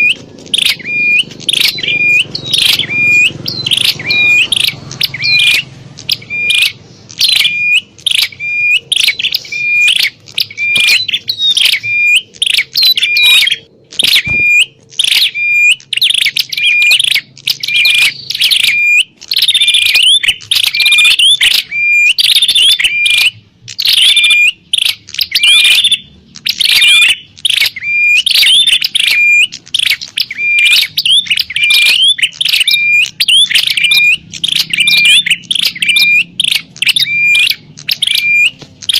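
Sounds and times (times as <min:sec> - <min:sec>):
birds chirping sharply: 0:00.0 - 0:38.9.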